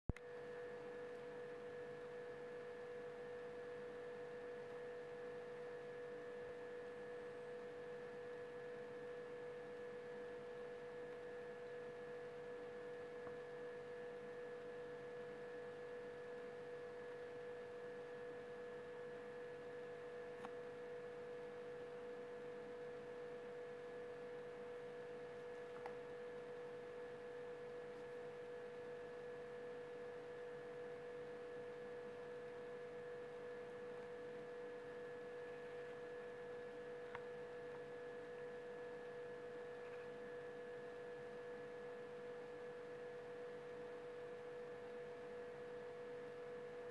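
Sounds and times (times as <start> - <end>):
faint electrical whine: 0.1 - 46.9.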